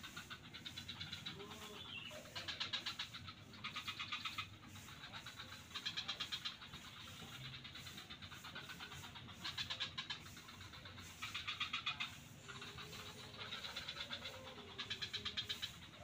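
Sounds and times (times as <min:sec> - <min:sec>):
frogs calling in fast pulses: 0:00.0 - 0:16.0.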